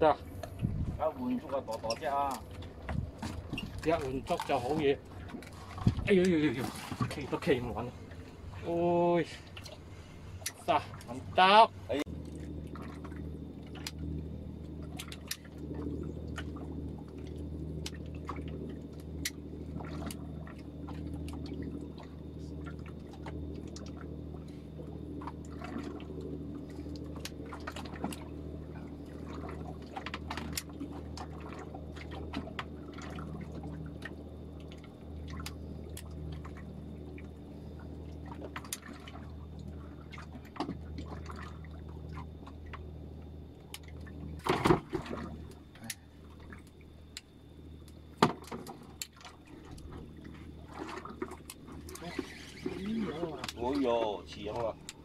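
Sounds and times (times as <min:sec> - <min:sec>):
boat engine hum: 0:00.0 - 0:55.0
water slapping boat hull: 0:00.0 - 0:55.0.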